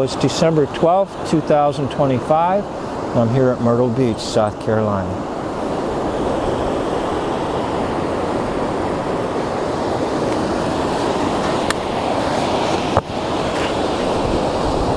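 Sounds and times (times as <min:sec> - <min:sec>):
ocean surf on beach: 0:00.0 - 0:14.9.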